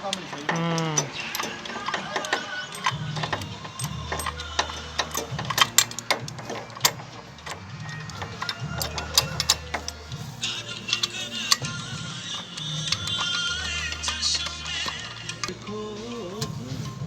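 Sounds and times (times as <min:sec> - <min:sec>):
metallic clicks of hand tools: 0:00.0 - 0:17.0.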